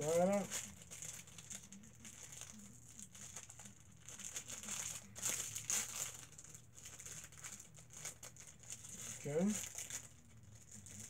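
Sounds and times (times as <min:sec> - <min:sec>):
wrapper crinkling: 0:00.0 - 0:11.0.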